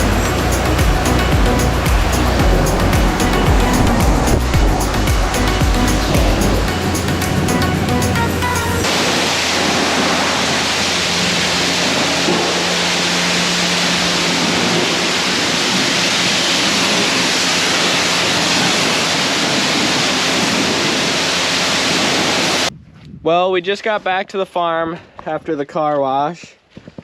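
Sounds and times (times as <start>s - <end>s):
pressure washer spraying water: 0.0s - 22.7s.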